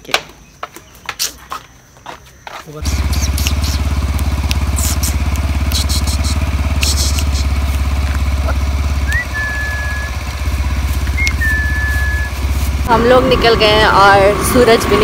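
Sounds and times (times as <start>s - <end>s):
scooter engine idling: 2.8s - 15.0s.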